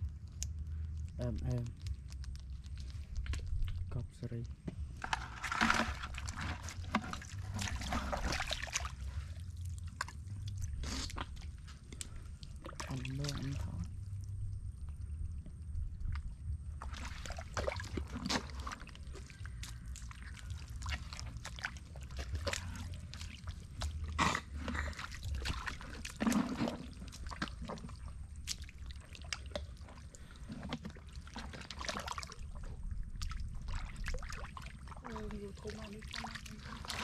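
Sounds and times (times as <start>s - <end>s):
mud and water squelching: 0.0s - 37.0s
steady low rumble: 0.0s - 37.0s.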